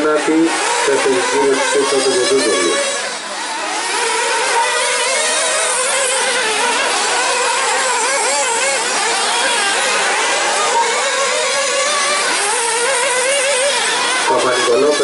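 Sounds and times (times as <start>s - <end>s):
small engines whining and revving: 0.0s - 15.0s.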